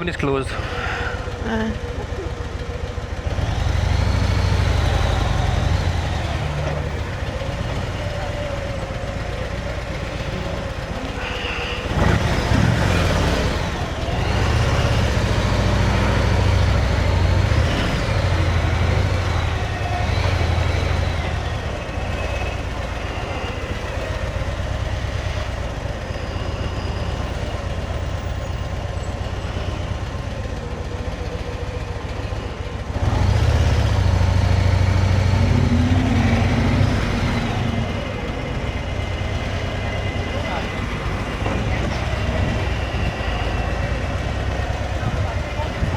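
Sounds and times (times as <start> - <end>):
motorcycle engine running: 0.5 - 45.9.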